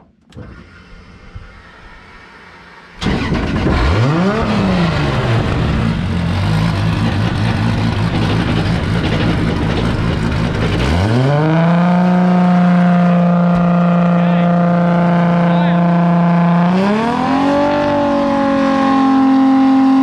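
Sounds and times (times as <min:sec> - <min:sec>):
car engine revving and idling: 0:00.3 - 0:20.0.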